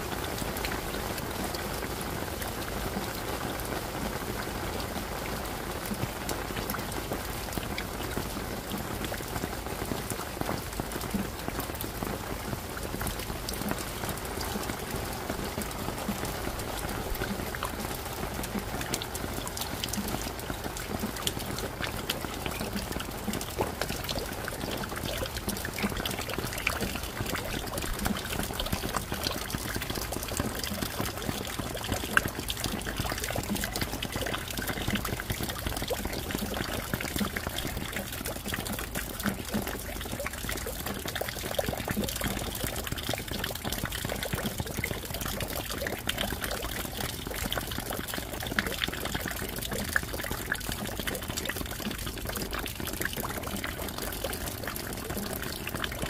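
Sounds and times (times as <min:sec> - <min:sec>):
rain drops ticking: 0:00.0 - 0:56.0
water trickling: 0:00.0 - 0:56.0.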